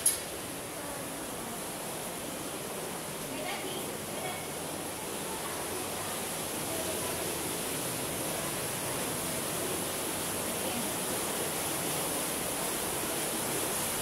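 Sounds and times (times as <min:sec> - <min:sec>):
stream rushing through gorge: 0:00.0 - 0:14.0.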